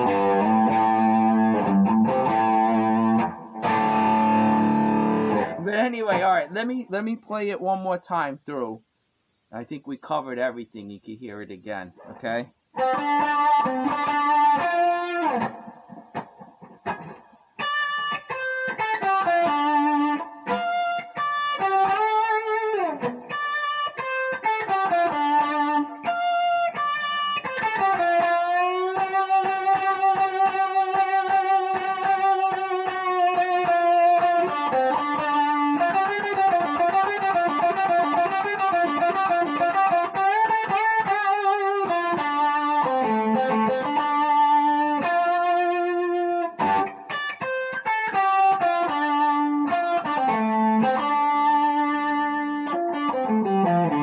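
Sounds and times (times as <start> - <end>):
electric guitar blues lick: 0.0 - 6.5, 11.9 - 54.0.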